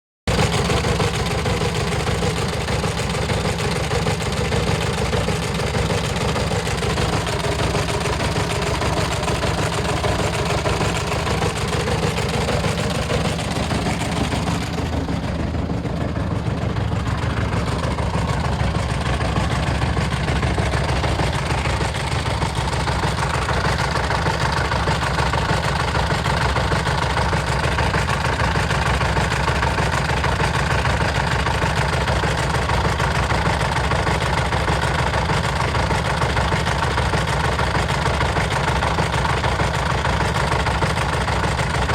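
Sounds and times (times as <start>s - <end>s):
diesel truck engine running: 0.3s - 41.9s
engine knocking: 0.3s - 41.9s.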